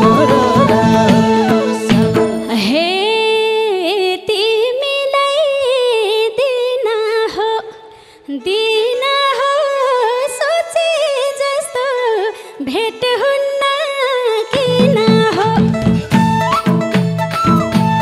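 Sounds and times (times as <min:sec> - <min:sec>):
woman singing into a microphone: 0:00.0 - 0:16.5.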